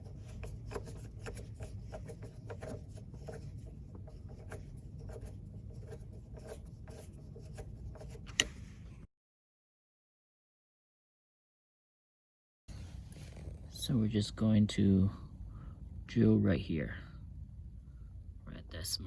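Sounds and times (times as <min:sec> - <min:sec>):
low steady hum: 0:00.0 - 0:09.1, 0:12.7 - 0:19.0.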